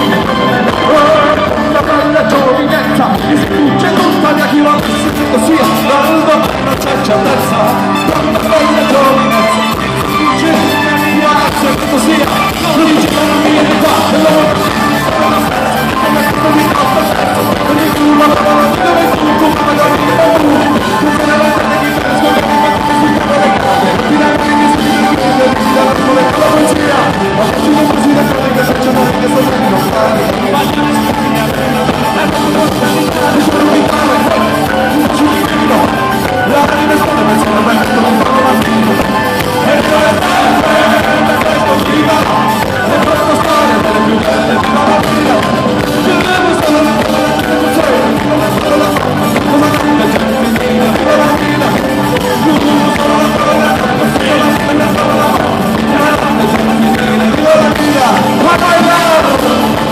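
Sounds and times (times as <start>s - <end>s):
drum kit: 0.0s - 59.9s
guitars: 0.0s - 59.9s
man singing: 0.0s - 59.9s.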